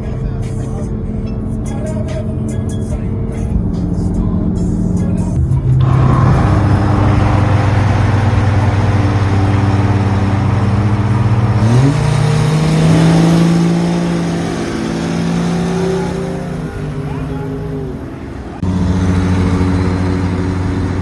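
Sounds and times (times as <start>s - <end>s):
car engine under throttle: 3.3s - 21.0s.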